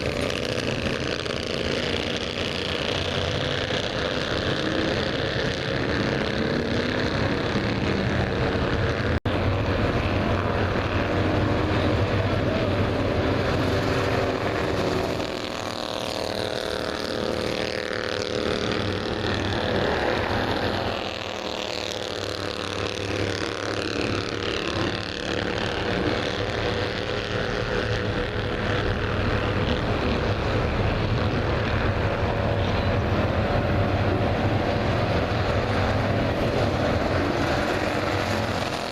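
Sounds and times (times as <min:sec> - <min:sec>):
race car engines: 0:00.0 - 0:38.9.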